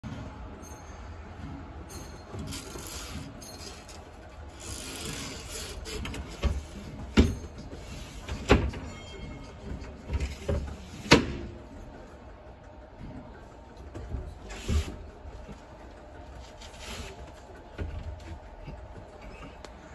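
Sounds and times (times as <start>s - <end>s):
tram low rumble: 0.0s - 19.9s.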